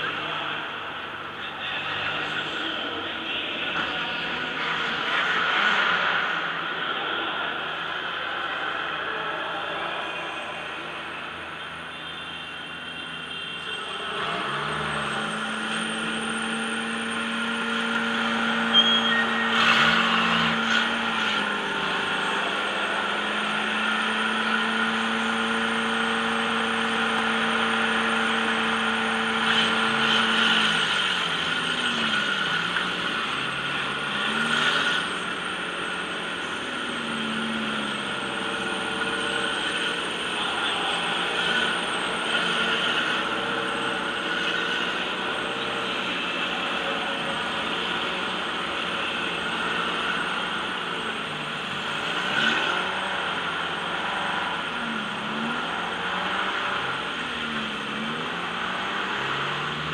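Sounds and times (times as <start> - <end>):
car engine droning and revving: 0.0 - 59.9
car running on dirt track: 0.0 - 59.9.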